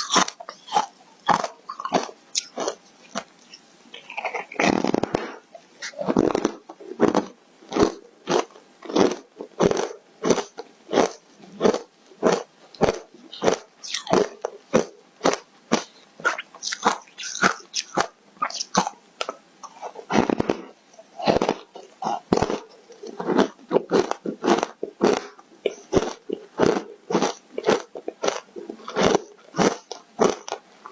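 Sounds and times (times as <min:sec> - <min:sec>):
ice being chewed: 0:00.0 - 0:30.9.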